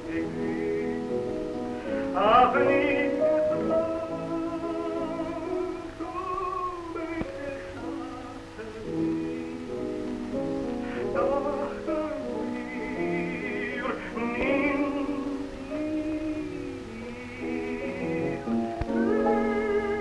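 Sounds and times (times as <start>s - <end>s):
operatic tenor singing: 0.0s - 20.0s
piano accompaniment: 0.0s - 20.0s.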